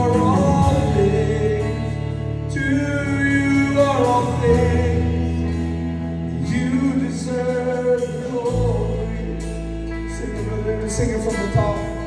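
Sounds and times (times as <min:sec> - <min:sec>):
low bass: 0:00.0 - 0:12.0
worship band playing: 0:00.0 - 0:12.0.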